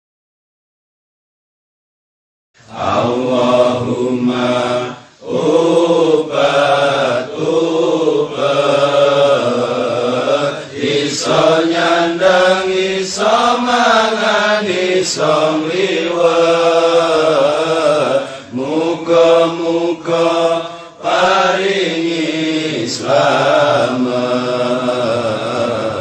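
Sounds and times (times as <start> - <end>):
person chanting a prayer: 2.6 - 26.0.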